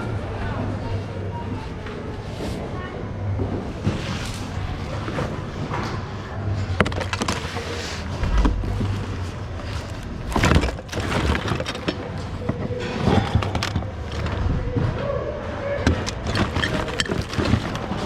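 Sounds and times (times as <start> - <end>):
goods rummaged in a bin: 3.5 - 18.0.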